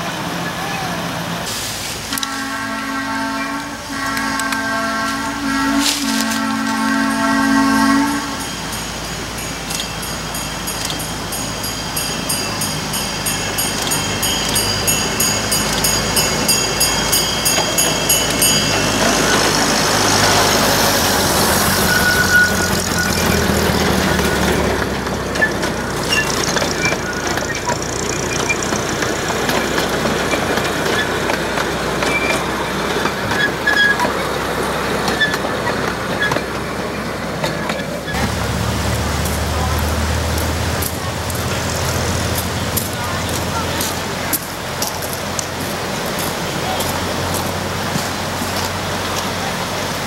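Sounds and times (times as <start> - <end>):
small locomotive engine droning: 0.0 - 50.0
steel wheels clicking on track: 5.8 - 50.0.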